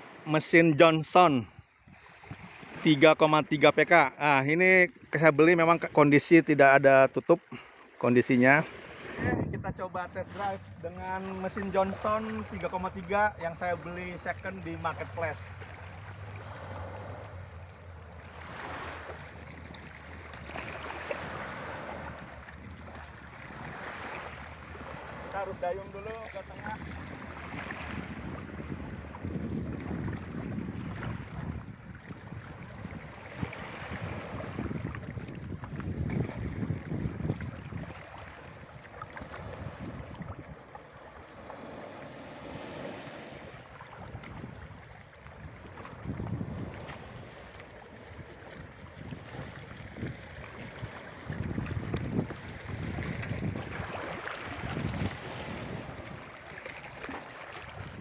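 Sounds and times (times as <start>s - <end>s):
water splashing and lapping: 0.0s - 0.3s, 1.0s - 58.0s
sea waves washing: 0.0s - 58.0s
wind on microphone: 8.9s - 17.6s, 18.3s - 40.7s, 41.4s - 58.0s.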